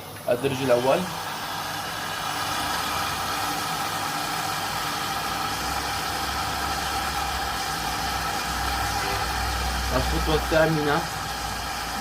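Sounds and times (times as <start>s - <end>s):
water rushing into washing machine: 0.6s - 12.0s.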